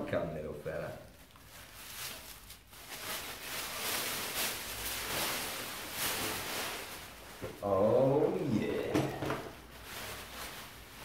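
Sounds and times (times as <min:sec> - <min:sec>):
towel rustling and flapping: 0:01.4 - 0:11.0.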